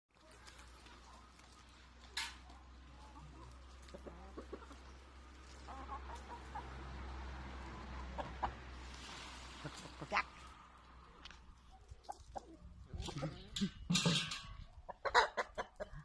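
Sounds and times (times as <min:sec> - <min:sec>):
roosters clucking: 0:00.2 - 0:16.0.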